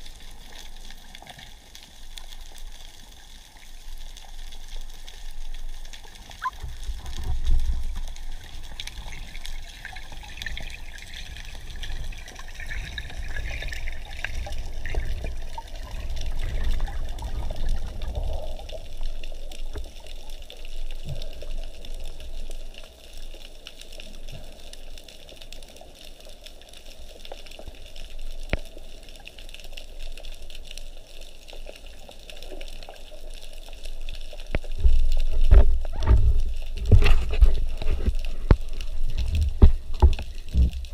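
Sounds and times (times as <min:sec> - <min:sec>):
water rushing and bubbling underwater: 0:00.0 - 0:40.9.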